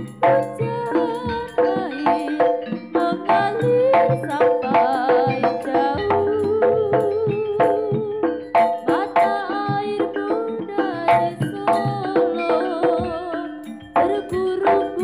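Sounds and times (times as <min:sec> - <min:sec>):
sustained gamelan tones: 0:00.0 - 0:15.0.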